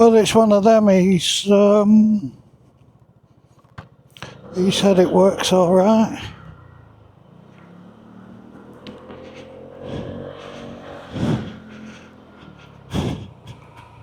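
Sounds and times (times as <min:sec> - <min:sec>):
scooter engine running: 0:01.8 - 0:14.0.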